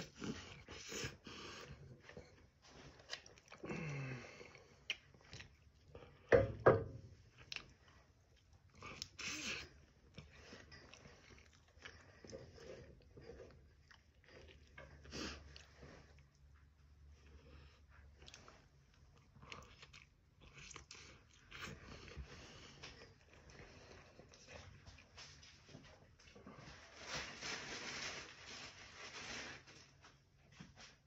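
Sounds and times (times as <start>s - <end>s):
person chewing food: 0.0s - 6.4s, 7.1s - 26.7s.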